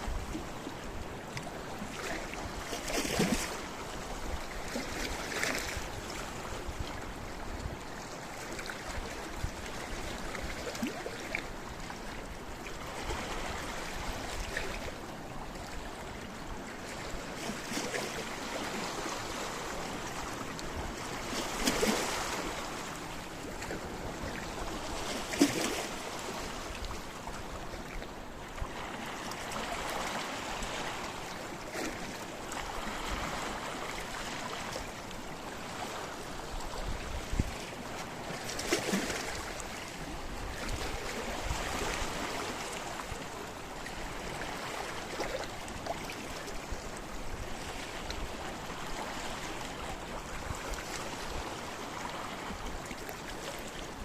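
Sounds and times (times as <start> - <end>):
wave splashes: 0.0 - 54.0.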